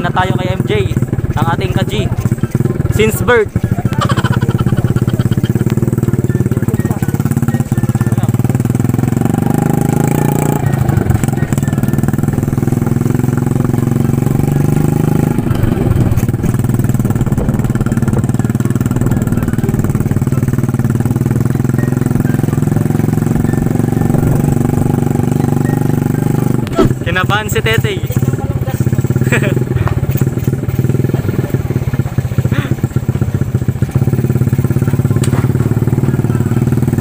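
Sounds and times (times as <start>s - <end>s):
small motorcycle engine running: 0.0s - 37.0s.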